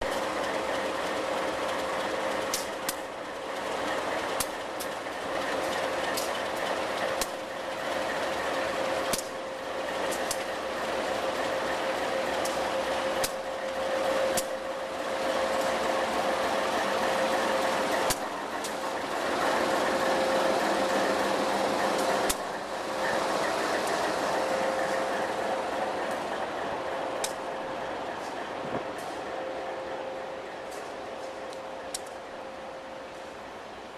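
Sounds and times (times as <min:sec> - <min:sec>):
constant whine: 0:00.0 - 0:33.9
diesel locomotive engine idling: 0:00.0 - 0:33.9.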